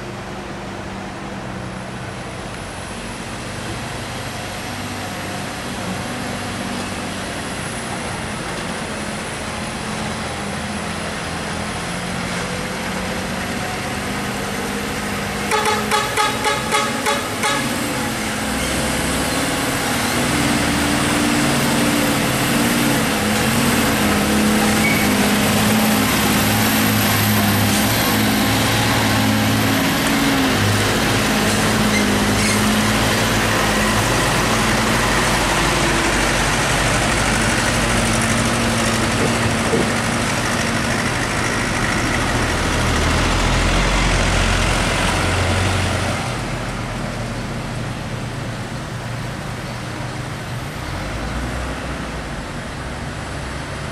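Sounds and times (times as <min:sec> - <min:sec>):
road and wind noise: 0:00.0 - 0:53.9
vehicle engine hum: 0:00.0 - 0:53.9.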